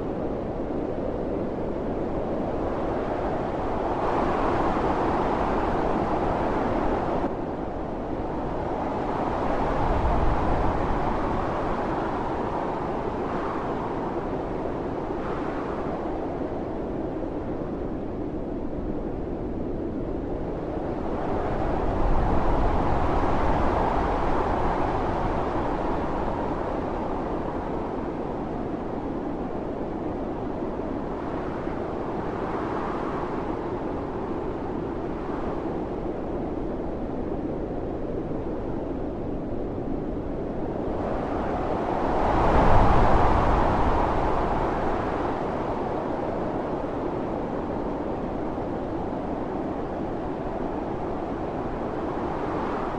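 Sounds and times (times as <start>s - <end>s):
strong gusty wind: 0.0s - 52.9s.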